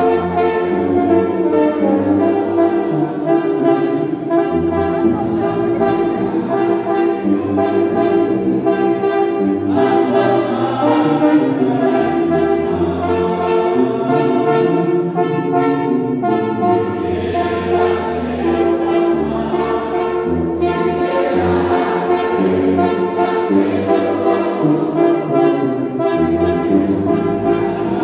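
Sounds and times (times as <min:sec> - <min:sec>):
brass band playing: 0:00.0 - 0:28.0.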